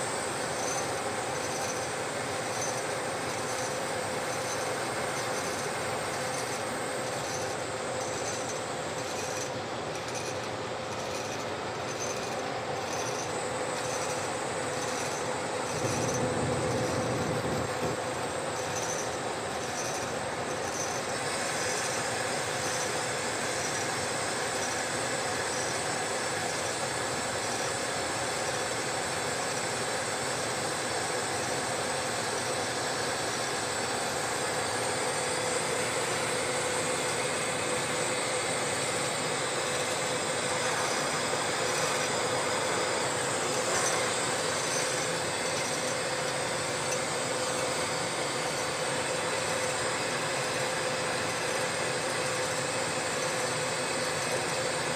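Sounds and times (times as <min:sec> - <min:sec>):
gas torch hissing on glass lathe: 0:00.0 - 0:54.9.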